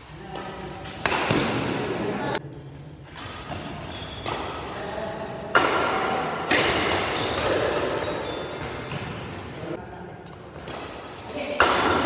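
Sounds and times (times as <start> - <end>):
racket hitting shuttlecock: 0.2 - 2.4, 3.1 - 9.5, 10.3 - 12.0.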